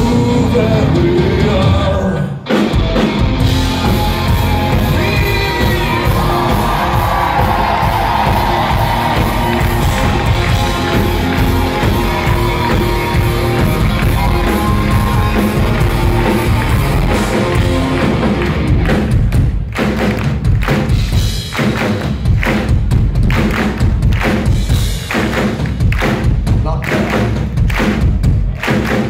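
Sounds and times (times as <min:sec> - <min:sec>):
live rock band playing loudly: 0:00.0 - 0:29.0.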